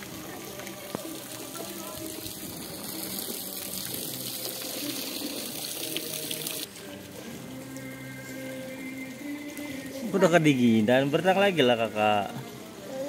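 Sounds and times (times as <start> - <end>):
swimming pool water splashing: 0.0 - 13.0.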